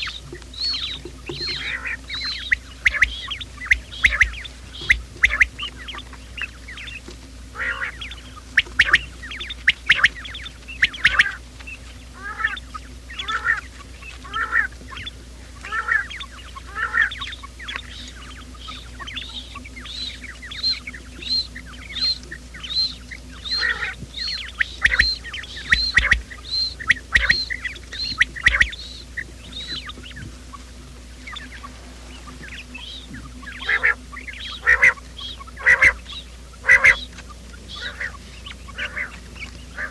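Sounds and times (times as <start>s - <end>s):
faint steady hum: 0.0s - 39.9s
quail calling: 0.0s - 39.9s.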